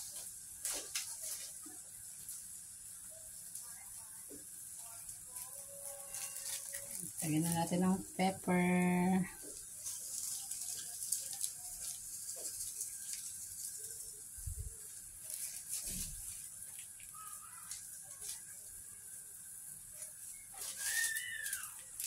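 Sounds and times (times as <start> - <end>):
shrimp sizzling in a frying pan: 0.0 - 22.0.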